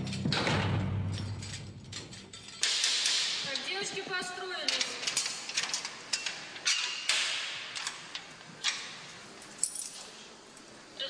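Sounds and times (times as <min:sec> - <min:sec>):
metallic clicks and clanks: 0:00.0 - 0:10.7.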